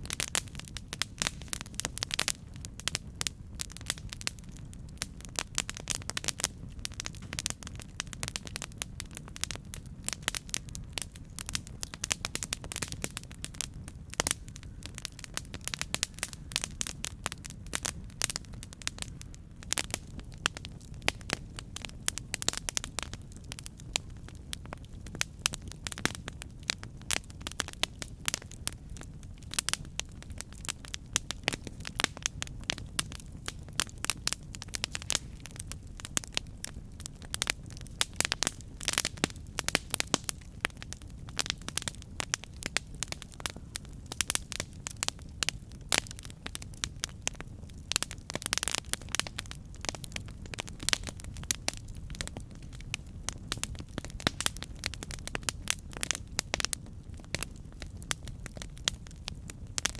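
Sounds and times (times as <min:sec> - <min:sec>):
burning wood crackling: 0:00.0 - 0:59.9
flames rumbling: 0:00.0 - 0:59.9.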